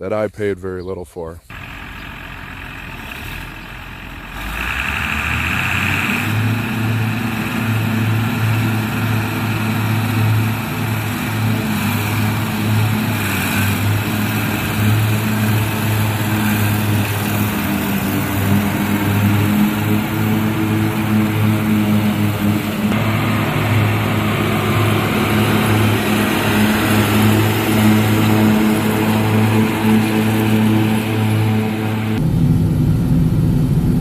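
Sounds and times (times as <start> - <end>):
rotary mower running: 1.5 - 34.0
tractor diesel engine droning: 1.5 - 34.0.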